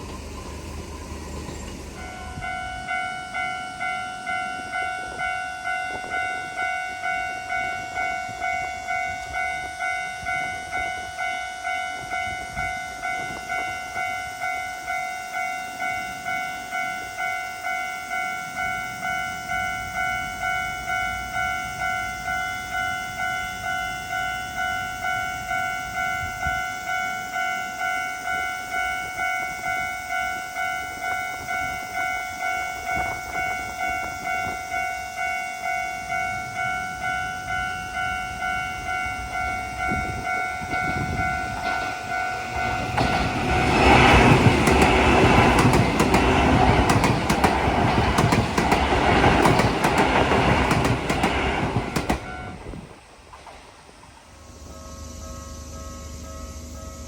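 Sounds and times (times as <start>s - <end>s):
level crossing warning bell: 0.0s - 52.9s, 54.4s - 57.0s.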